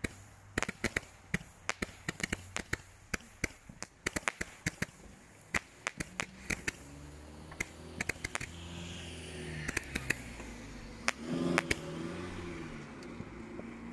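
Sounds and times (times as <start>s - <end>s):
firework hissing: 0.0s - 12.8s
firework crackling pops: 0.0s - 13.4s.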